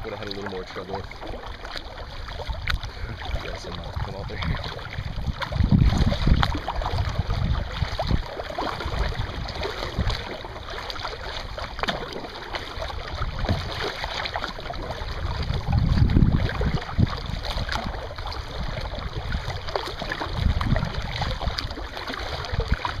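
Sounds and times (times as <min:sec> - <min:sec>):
kayak paddle splashing water: 0:00.0 - 0:23.0
wind buffeting microphone: 0:02.2 - 0:23.0.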